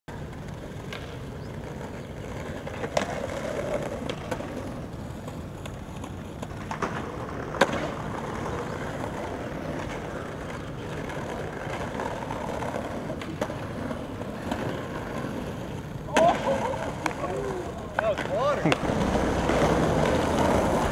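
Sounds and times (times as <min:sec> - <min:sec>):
skateboard clacks and impacts: 0:00.1 - 0:20.9
skateboard wheels rolling: 0:00.1 - 0:20.9.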